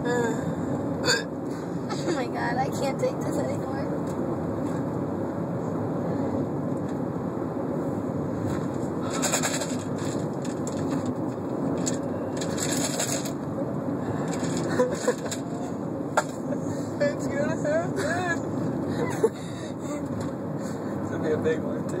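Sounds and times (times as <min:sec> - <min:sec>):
car interior rumble while driving: 0:00.0 - 0:22.0.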